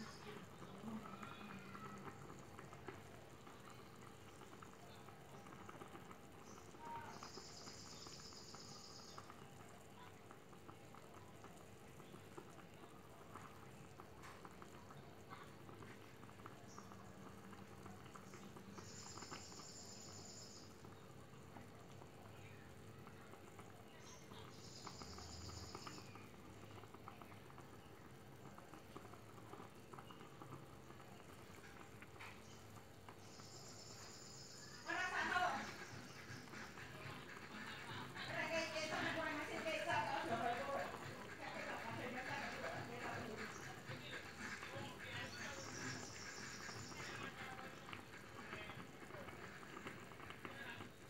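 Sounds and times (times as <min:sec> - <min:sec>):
thick sauce simmering with bubbling pops: 0:00.0 - 0:51.0.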